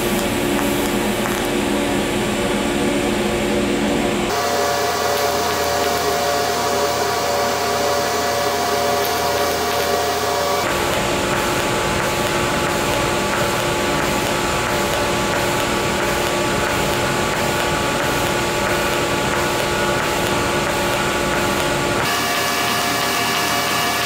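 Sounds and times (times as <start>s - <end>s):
welding arc hissing and buzzing: 0.0s - 24.0s.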